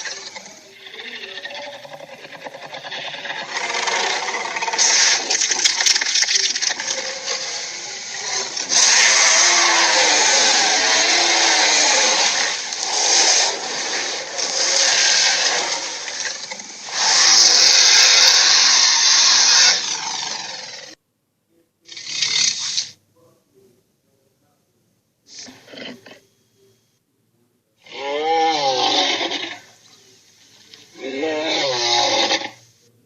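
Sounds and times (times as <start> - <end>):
cartoon dinosaur screeches: 0.0 - 21.0, 21.9 - 23.0, 25.3 - 26.2, 27.8 - 29.8, 30.9 - 32.6.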